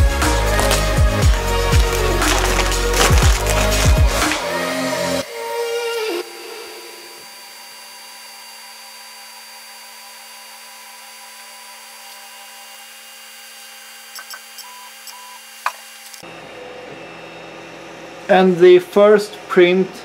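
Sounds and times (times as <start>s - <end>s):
stepper motors whining: 0.0s - 17.5s.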